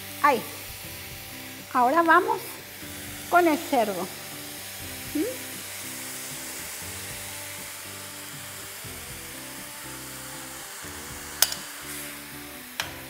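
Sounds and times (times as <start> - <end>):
onions sizzling in oil: 0.0 - 13.0
soft background music: 0.0 - 13.0.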